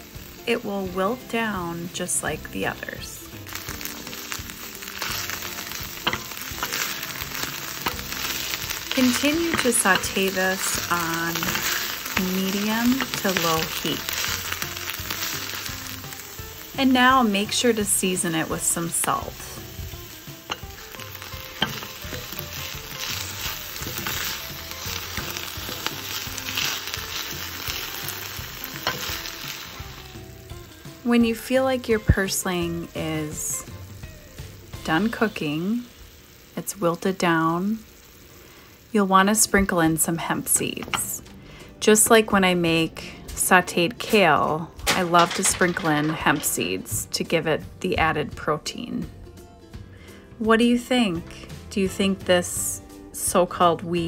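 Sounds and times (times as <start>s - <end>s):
greens sizzling in a pan: 0.0s - 54.0s.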